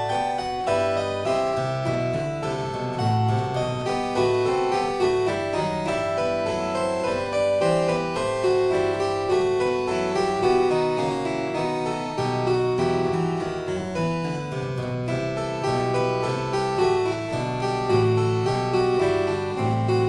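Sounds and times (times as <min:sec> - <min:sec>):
keyboard instrumental music: 0:00.0 - 0:20.0.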